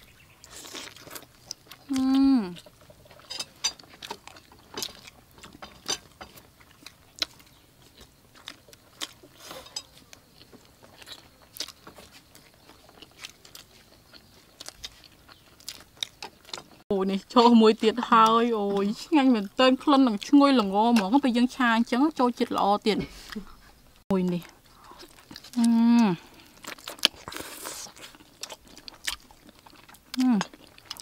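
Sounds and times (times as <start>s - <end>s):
people chewing crunchy chicken wings: 0.0s - 16.8s, 17.8s - 31.0s.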